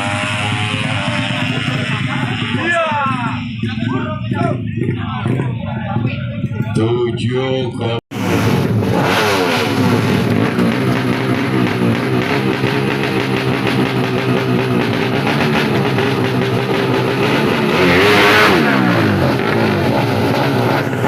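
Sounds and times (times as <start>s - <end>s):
motorbike engines revving: 0.0s - 21.0s.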